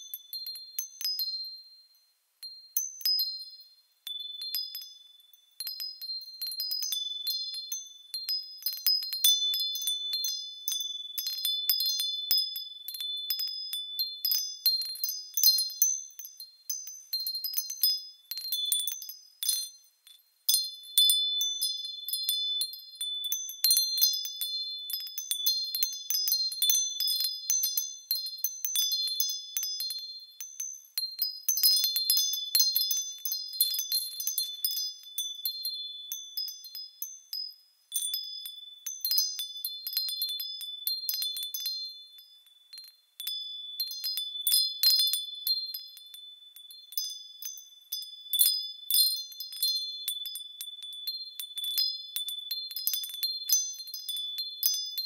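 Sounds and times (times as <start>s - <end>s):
wind chimes tinkling: 0.0s - 55.0s.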